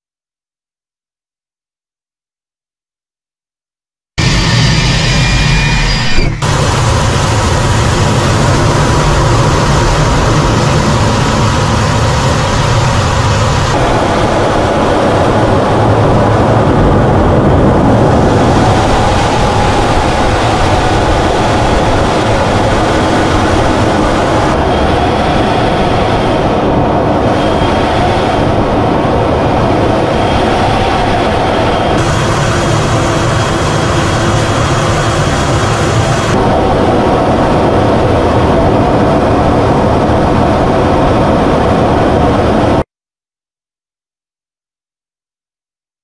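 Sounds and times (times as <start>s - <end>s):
jet engine rumble and airflow: 4.2s - 42.9s.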